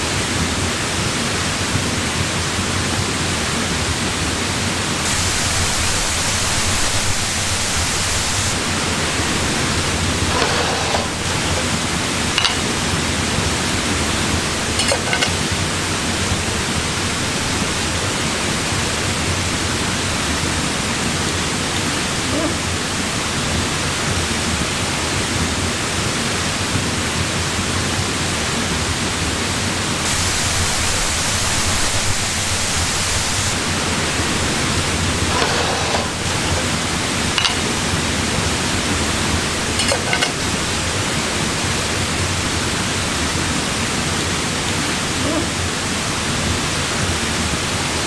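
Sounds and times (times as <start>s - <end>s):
rush of falling water: 0.0s - 48.0s.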